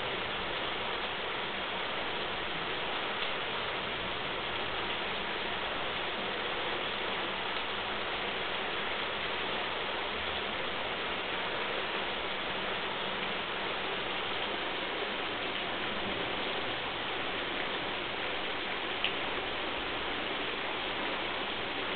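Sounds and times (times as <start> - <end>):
floodwater rushing down a channel: 0.0 - 21.9.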